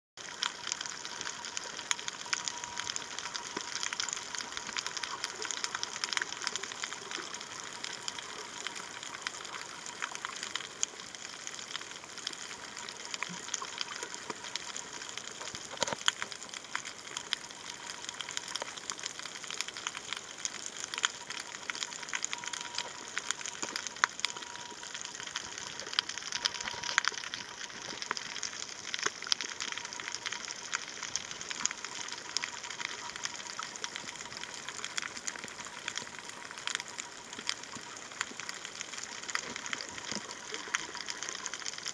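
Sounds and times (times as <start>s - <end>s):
faint steady whine: 0.2s - 41.9s
underwater crackling hiss: 0.2s - 41.9s.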